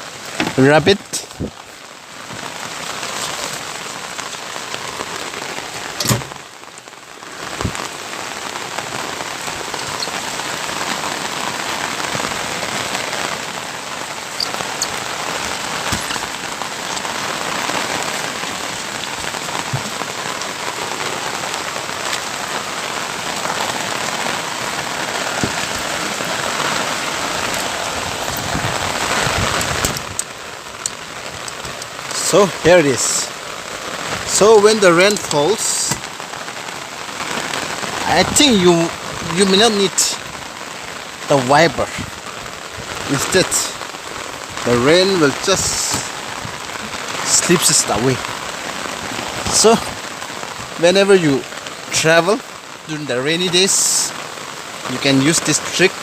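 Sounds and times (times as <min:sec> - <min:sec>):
heavy rain on a windshield: 0:00.0 - 0:56.0.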